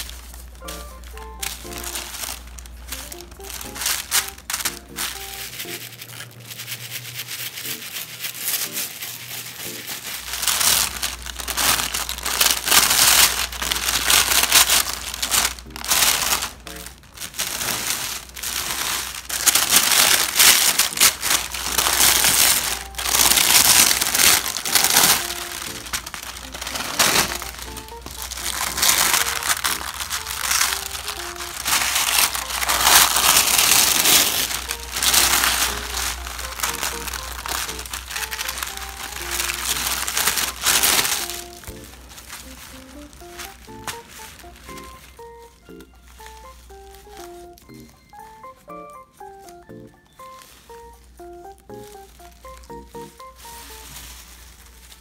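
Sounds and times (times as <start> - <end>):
paper and plastic crinkling: 0.0 - 55.0.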